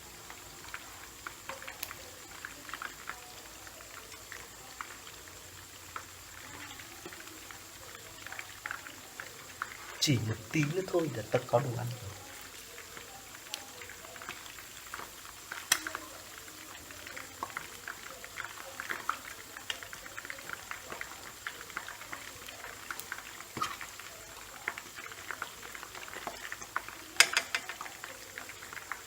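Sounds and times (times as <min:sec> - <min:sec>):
chicken deep-frying in oil: 0:00.0 - 0:29.0.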